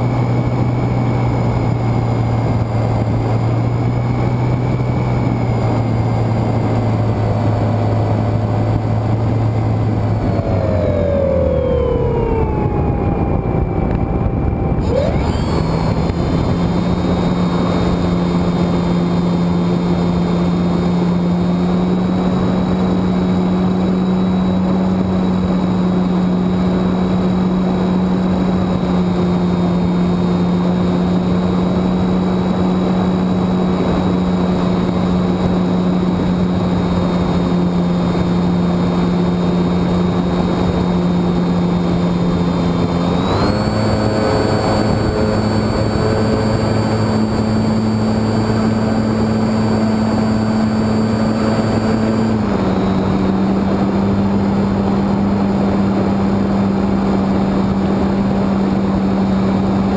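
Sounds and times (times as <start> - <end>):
electric motor spinning propeller: 0.0 - 59.9
wind rush: 0.0 - 59.9.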